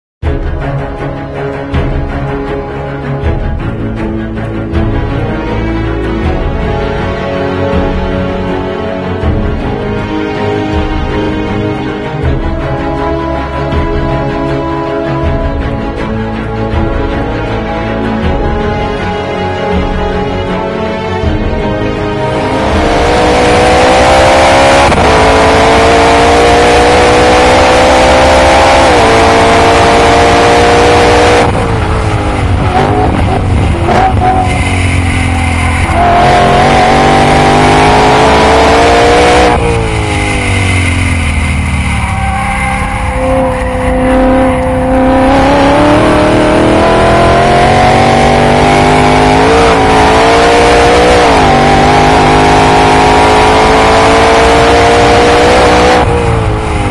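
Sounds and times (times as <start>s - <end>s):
car engine at full throttle: 0.2s - 56.9s.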